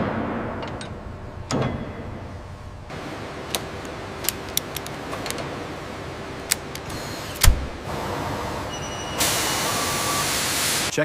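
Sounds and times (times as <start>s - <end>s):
factory hum: 0.0s - 11.0s.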